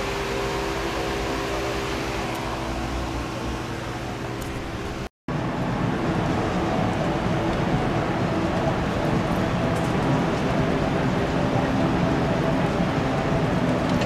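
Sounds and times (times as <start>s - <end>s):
fan air rush and motor hum: 0.0s - 14.0s
steady noise: 0.0s - 14.0s.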